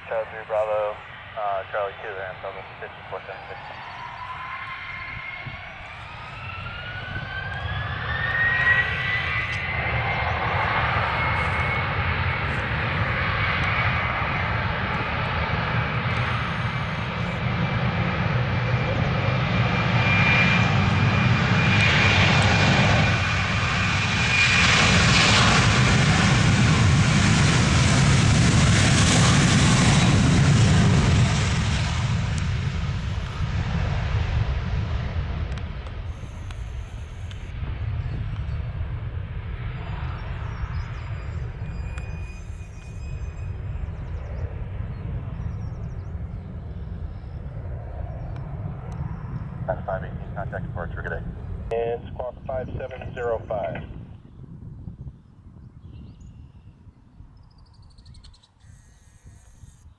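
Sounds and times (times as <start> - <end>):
jet engines whining: 0.0 - 55.6
low jet rumble: 0.0 - 57.9.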